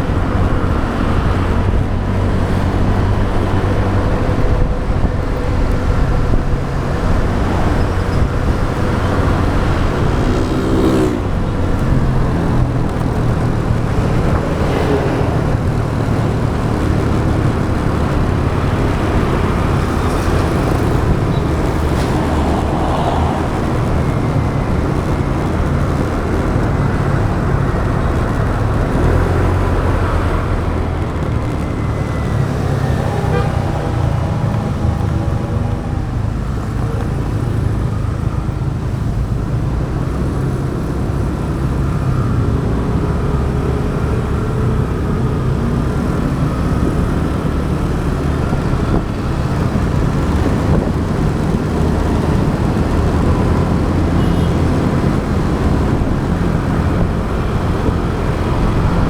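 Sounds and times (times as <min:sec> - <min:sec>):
vehicles passing: 0:00.0 - 0:59.0
wind and road noise: 0:00.0 - 0:59.0.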